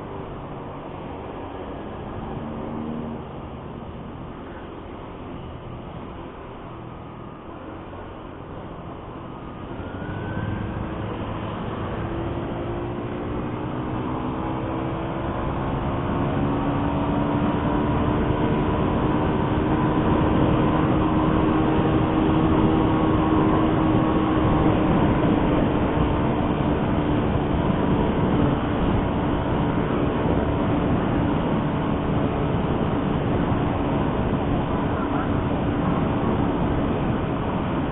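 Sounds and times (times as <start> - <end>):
road and wind noise: 0.0 - 37.9
vehicle engine accelerating: 0.0 - 37.9.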